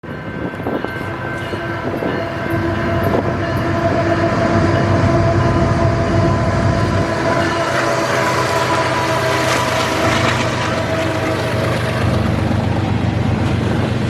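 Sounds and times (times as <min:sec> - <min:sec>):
freight train locomotive rumble: 0:00.0 - 0:14.0.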